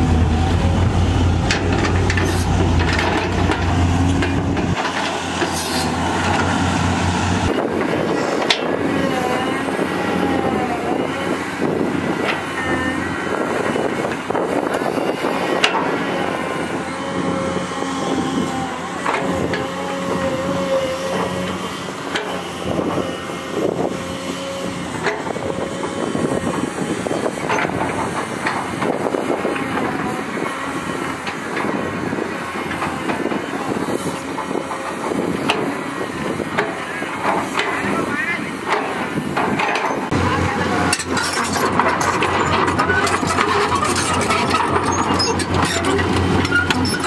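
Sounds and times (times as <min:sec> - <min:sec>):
excavator engine drone: 0:00.0 - 0:47.0
excavator bucket clanking: 0:01.3 - 0:06.8, 0:07.4 - 0:24.2, 0:24.8 - 0:47.0.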